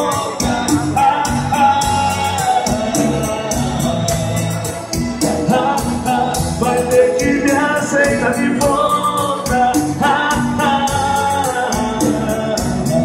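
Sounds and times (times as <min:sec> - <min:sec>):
live dance band playing: 0:00.0 - 0:13.0.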